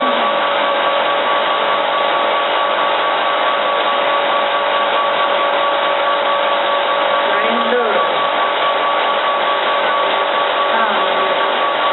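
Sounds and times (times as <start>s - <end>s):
motor whine: 0.0s - 11.9s.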